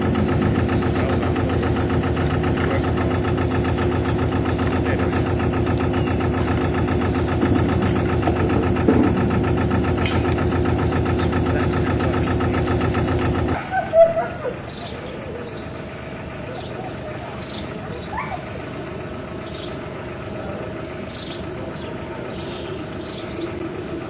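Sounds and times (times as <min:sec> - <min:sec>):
boat diesel engine chugging: 0:00.0 - 0:24.0.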